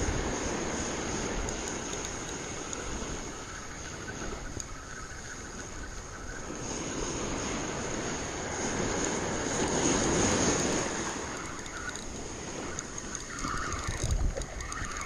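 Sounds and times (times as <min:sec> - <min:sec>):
waves washing up beach: 0:00.0 - 0:15.0
wind rumbling on microphone: 0:00.0 - 0:15.0.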